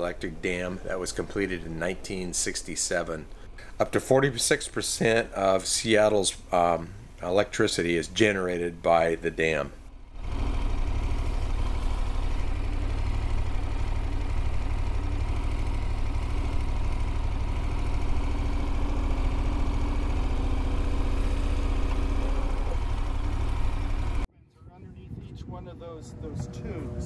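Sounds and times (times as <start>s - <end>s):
motorcycle engine low rumble: 0.0s - 27.0s.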